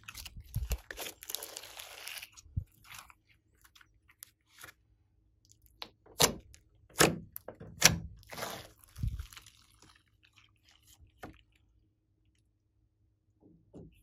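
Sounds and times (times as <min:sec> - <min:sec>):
slime squelch: 0:00.0 - 0:13.0.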